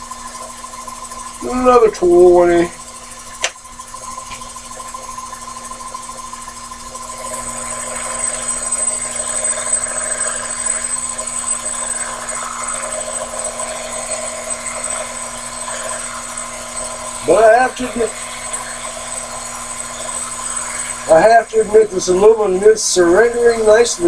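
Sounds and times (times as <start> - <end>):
cutting tool hiss and whine: 0.0 - 24.0
lathe motor hum: 0.0 - 24.0.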